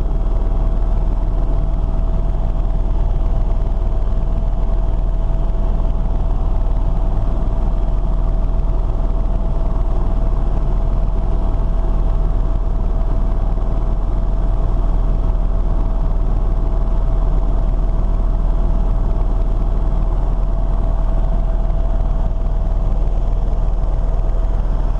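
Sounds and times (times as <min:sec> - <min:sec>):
aircraft engine drone: 0:00.0 - 0:24.9.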